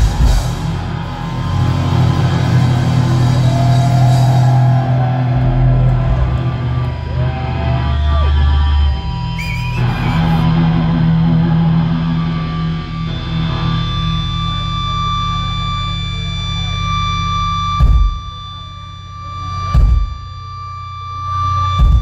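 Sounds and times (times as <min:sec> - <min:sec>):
distorted electric guitar feedback: 0:00.0 - 0:22.0.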